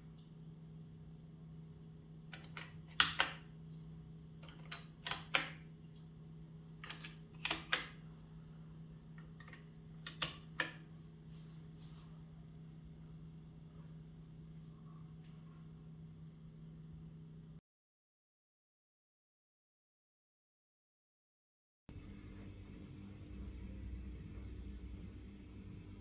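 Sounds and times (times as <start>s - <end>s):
steady low hum: 0.0s - 17.6s, 21.9s - 26.0s.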